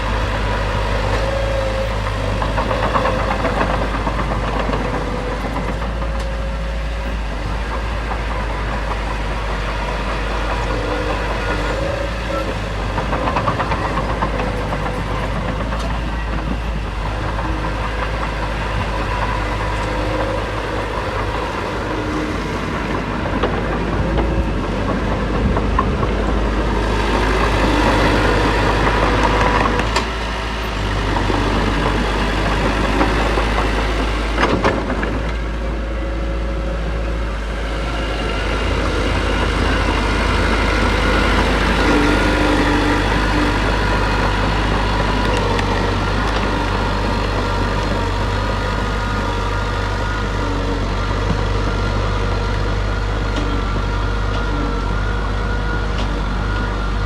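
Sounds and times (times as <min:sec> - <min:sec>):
heavy machinery diesel engine running: 0:00.0 - 0:57.0.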